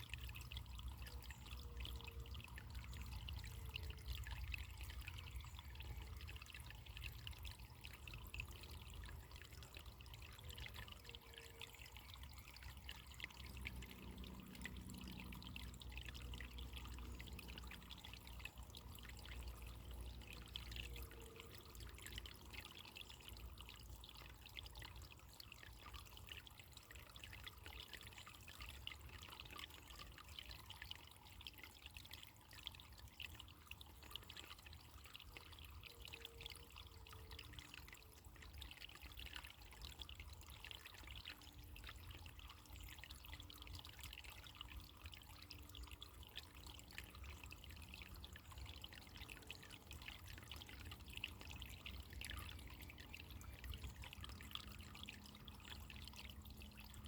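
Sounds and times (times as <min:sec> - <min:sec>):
water splashes and drips: 0:00.0 - 0:57.0
water trickling: 0:00.0 - 0:57.0.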